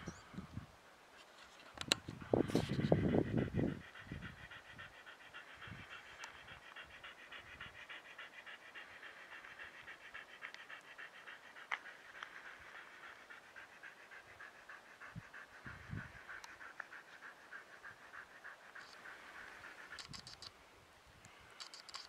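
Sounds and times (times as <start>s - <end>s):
dog panting rapidly: 1.9s - 20.5s.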